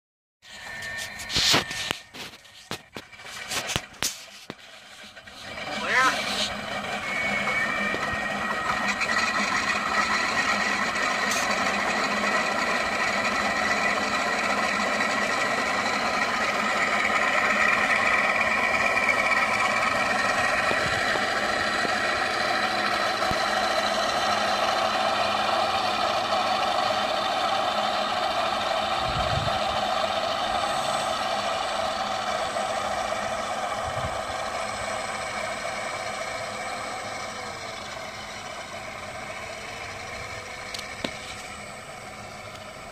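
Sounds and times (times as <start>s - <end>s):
model plane propellers and motors: 0.4s - 42.9s.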